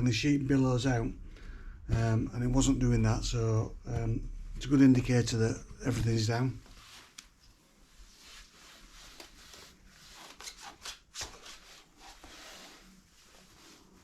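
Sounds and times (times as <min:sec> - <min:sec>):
faint rustling and scraping: 0:00.0 - 0:14.0.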